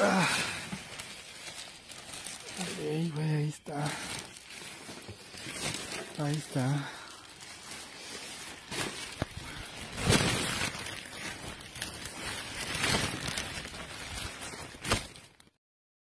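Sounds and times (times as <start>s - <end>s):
rustling handling noise: 0.0s - 15.6s.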